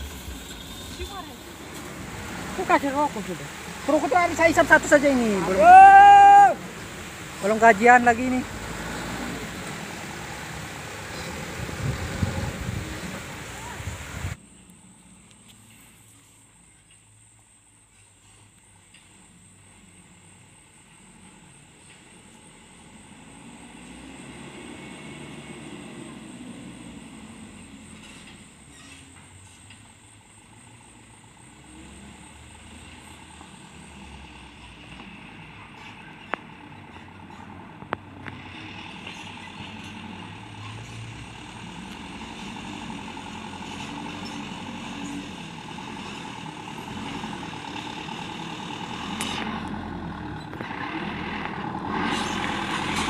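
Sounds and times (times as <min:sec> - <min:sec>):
diesel truck engine running: 0:00.0 - 0:14.4, 0:20.9 - 0:53.0.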